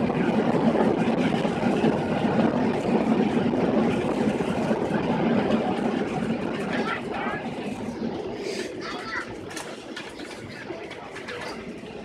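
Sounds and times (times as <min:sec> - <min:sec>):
aircraft cabin engine roar: 0:00.0 - 0:12.0.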